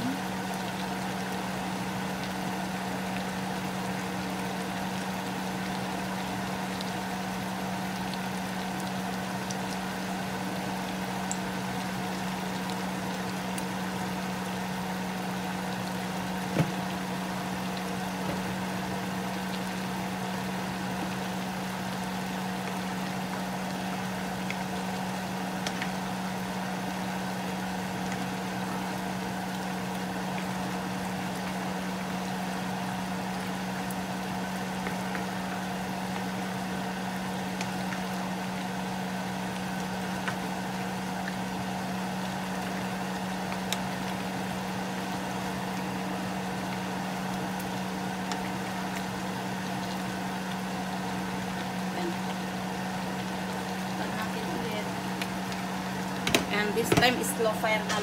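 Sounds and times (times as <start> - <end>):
food simmering in a pan: 0.0 - 58.0.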